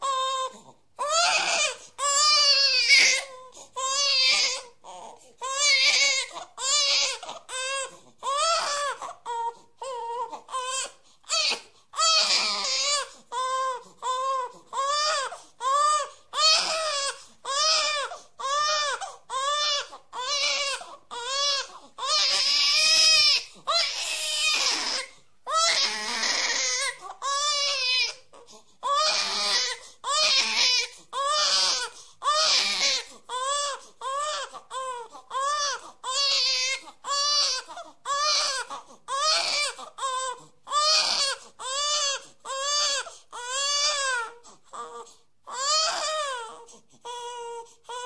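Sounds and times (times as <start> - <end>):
baby crying hard: 0.0 - 4.8, 5.4 - 44.4, 45.5 - 46.6.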